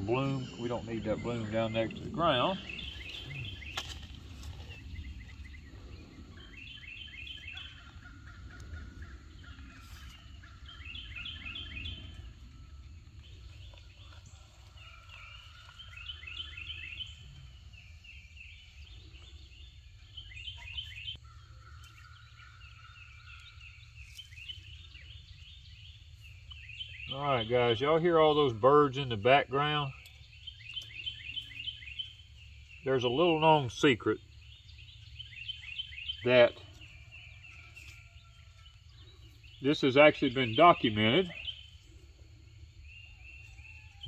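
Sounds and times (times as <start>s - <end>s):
birds singing: 0.0s - 44.0s.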